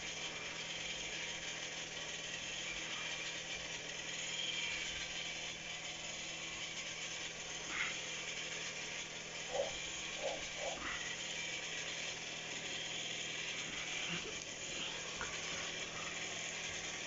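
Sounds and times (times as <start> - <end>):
mechanical whirring hiss: 0.0 - 17.0.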